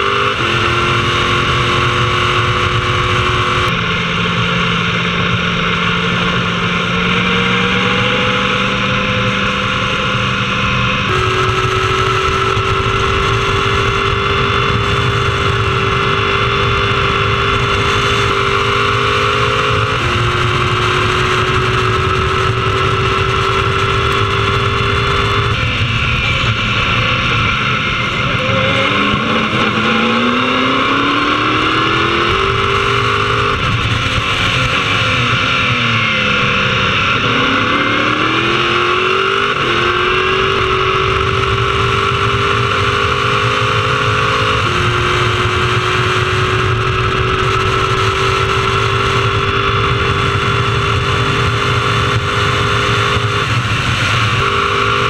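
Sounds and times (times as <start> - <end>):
race car engine at full throttle: 0.0 - 55.0.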